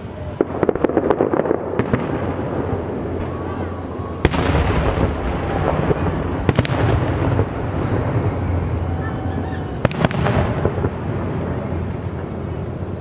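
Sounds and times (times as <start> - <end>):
fireworks crackling: 0.0 - 13.0
loud firework bangs: 0.3 - 12.4.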